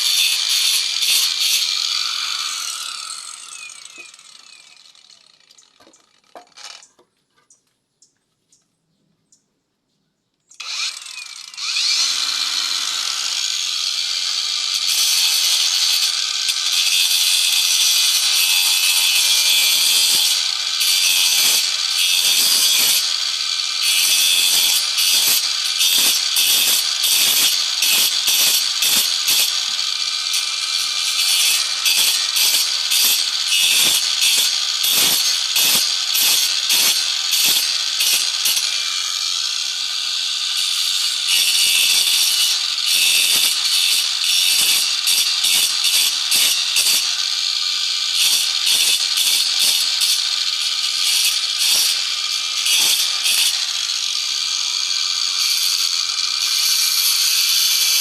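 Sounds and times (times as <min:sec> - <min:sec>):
power tool cutting wood: 0:00.0 - 0:07.0, 0:10.5 - 0:58.0.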